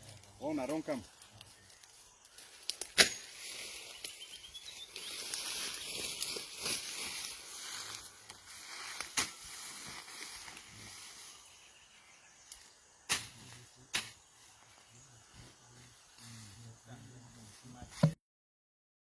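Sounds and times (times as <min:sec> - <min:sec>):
brush and grass rustling: 0:00.0 - 0:18.1.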